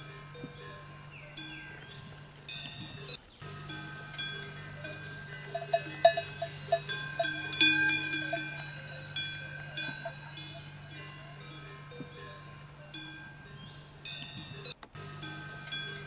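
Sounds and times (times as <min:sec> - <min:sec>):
low hum: 0:00.0 - 0:16.0
small metal bells clanking: 0:00.0 - 0:16.0.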